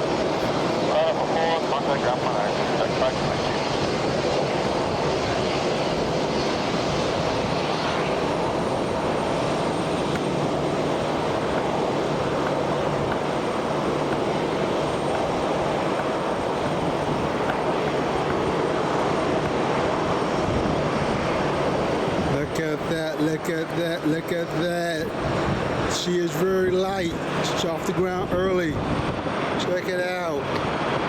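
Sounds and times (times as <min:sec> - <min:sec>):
airliner engines at takeoff: 0:00.0 - 0:31.0.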